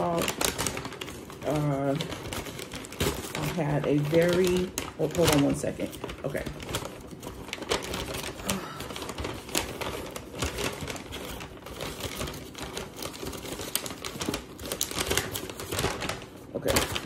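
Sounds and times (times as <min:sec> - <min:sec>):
paper bag crinkling: 0:00.0 - 0:17.0.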